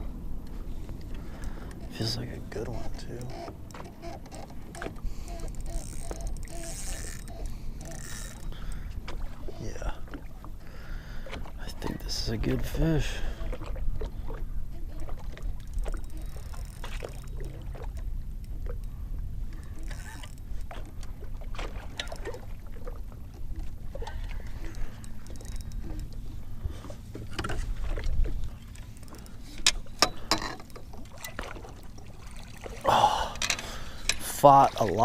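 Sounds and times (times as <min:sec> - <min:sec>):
wind and water against hull: 0:00.0 - 0:35.0.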